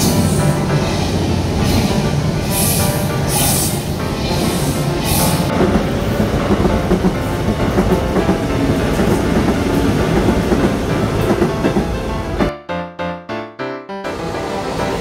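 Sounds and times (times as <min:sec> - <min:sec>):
electric train rumbling past: 0:00.0 - 0:12.5, 0:14.1 - 0:15.0.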